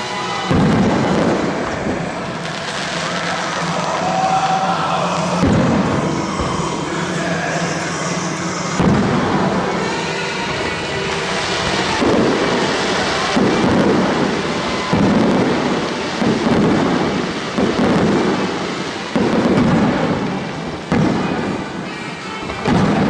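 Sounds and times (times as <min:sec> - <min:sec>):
crackling hiss: 0:00.0 - 0:23.0
firework shells booming: 0:00.4 - 0:07.1, 0:07.8 - 0:23.0.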